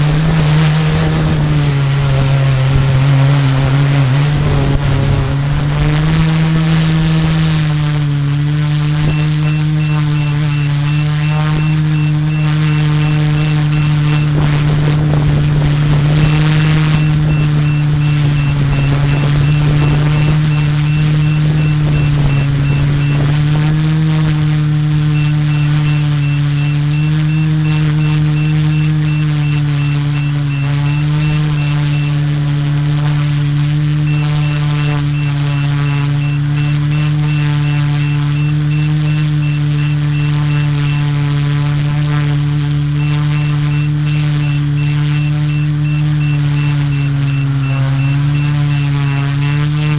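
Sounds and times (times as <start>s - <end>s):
drone motors humming: 0.0s - 49.9s
faint high whine: 0.0s - 49.9s.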